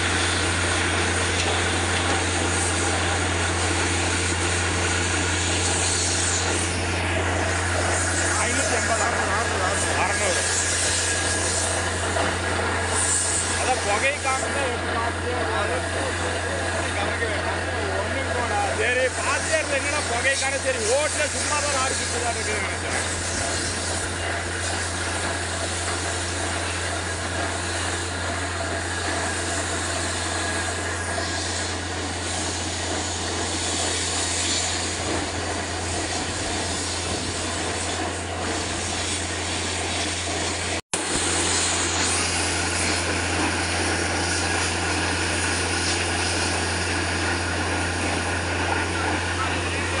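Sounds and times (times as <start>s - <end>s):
drilling rig engine hum: 0.0s - 50.0s
loud rushing mechanical noise: 0.0s - 50.0s.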